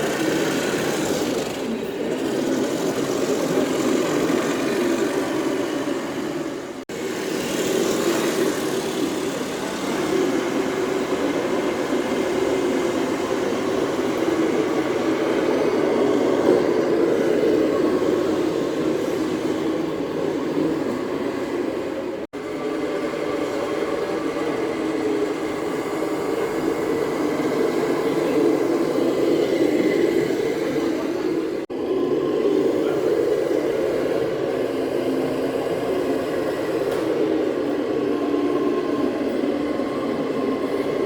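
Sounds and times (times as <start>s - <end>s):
model truck engine running: 0.0s - 41.0s.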